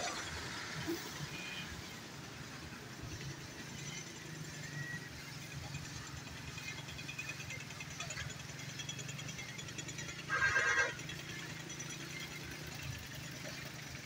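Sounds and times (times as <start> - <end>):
low traffic engine hum: 0.0 - 14.0.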